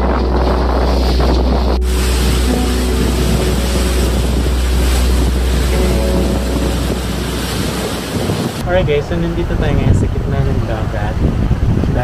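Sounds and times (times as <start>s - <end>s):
rushing water: 0.0s - 11.9s
wind buffeting microphone: 0.0s - 12.0s.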